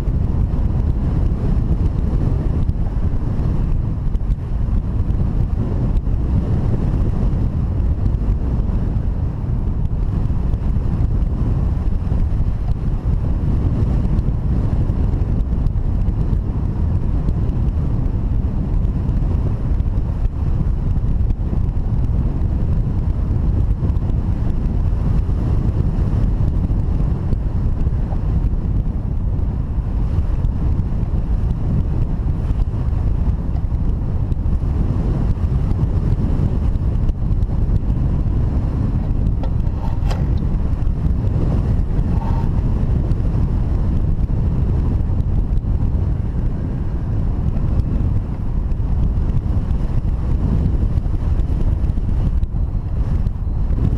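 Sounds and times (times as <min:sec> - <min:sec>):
wind noise on microphone: 0:00.0 - 0:53.9.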